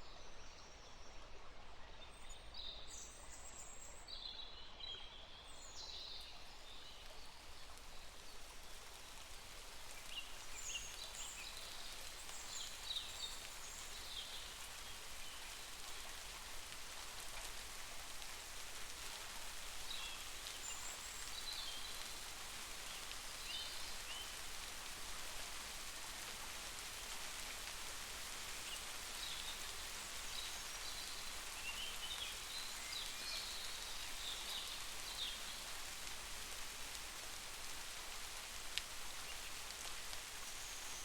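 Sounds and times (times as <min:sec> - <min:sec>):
heavy rain falling: 0:07.4 - 0:41.0.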